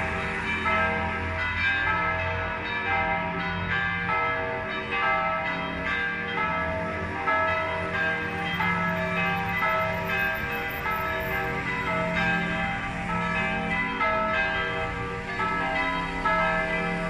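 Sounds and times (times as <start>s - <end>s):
church bells ringing in a peal: 0.0s - 17.0s.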